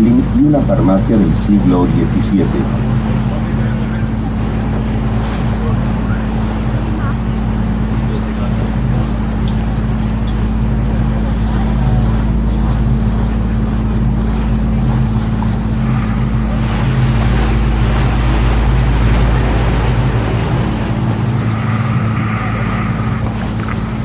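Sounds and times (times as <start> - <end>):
boat motor humming: 0.0 - 24.0
water wash: 0.0 - 24.0.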